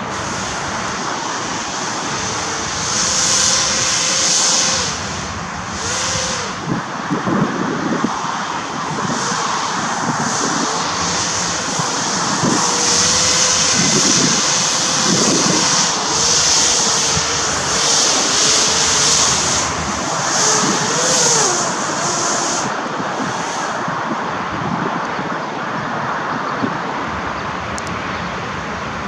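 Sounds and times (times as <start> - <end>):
hovercraft propeller whine: 0.0 - 29.0.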